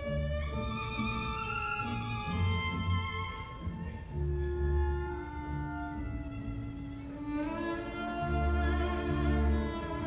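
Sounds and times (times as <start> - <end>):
orchestra playing: 0.0 - 10.0
solo violin: 0.0 - 10.0.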